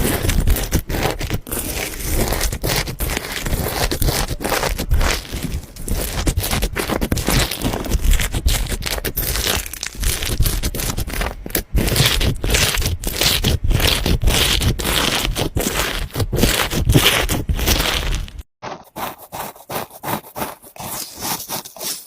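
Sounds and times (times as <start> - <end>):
slime squelching and popping: 0.0 - 18.4.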